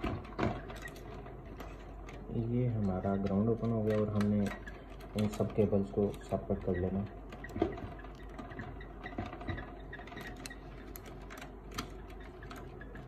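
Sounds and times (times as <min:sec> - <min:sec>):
clicks and rattles of printer parts: 0:00.0 - 0:13.0.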